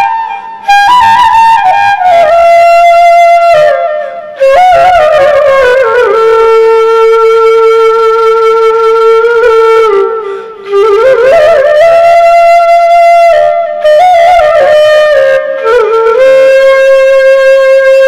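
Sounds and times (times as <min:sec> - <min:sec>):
flute-like wind instrument: 0:00.0 - 0:18.0.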